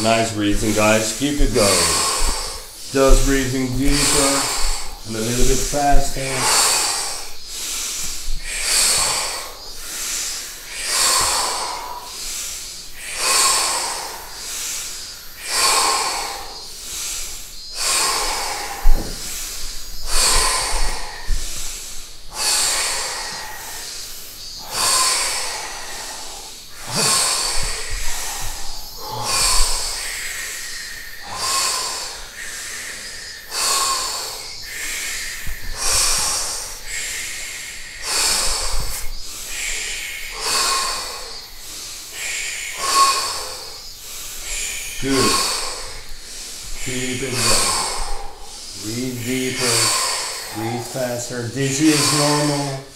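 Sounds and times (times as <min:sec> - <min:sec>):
people breathing deeply and fast: 0:00.0 - 0:52.9.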